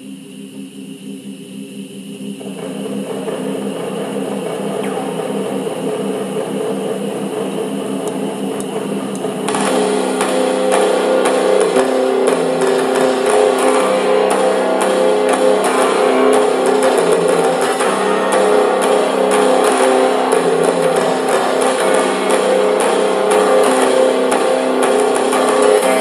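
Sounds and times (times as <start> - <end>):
sustained chords: 0.0 - 26.0.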